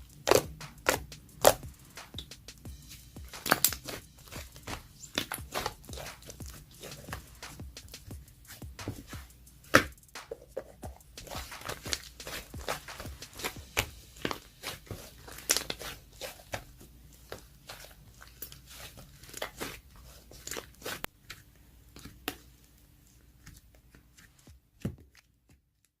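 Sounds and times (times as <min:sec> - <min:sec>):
slime squishing with sticky pops: 0:00.0 - 0:02.4, 0:03.3 - 0:25.9.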